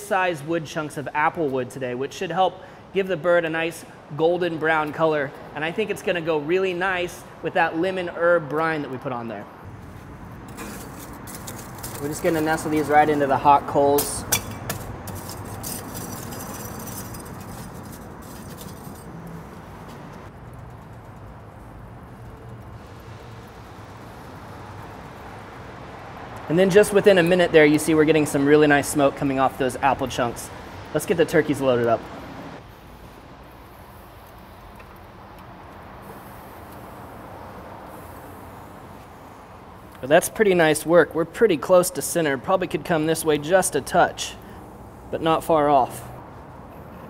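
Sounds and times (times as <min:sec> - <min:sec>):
low outdoor ambient hum: 0:00.0 - 0:47.0.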